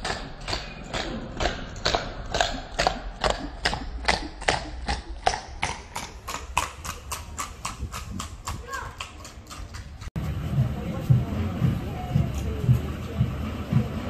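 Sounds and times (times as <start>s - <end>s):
horse hooves clip-clopping on concrete: 0.0s - 14.0s.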